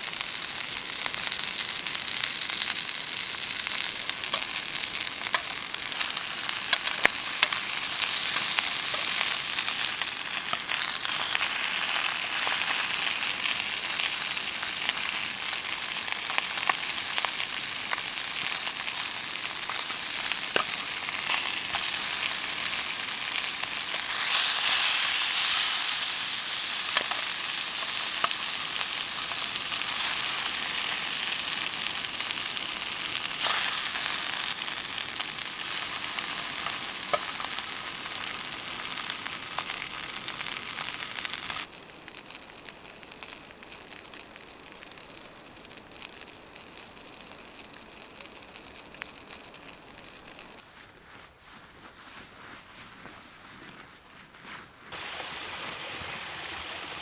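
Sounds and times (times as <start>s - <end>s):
bacon and sausages sizzling: 0.0s - 50.6s, 54.9s - 57.0s.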